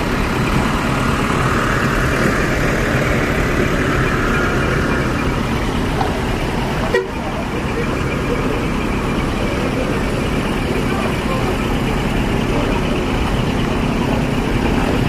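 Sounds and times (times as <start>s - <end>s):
truck engines running: 0.0s - 15.0s.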